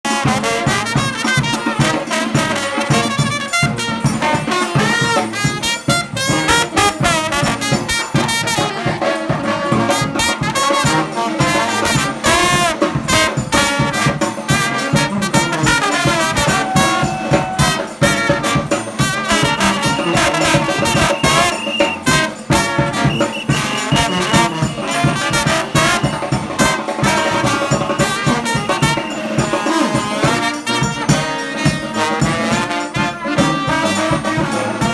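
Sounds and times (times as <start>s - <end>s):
driving drum beat: 0.0s - 34.9s
trumpets and trombones: 0.0s - 34.9s.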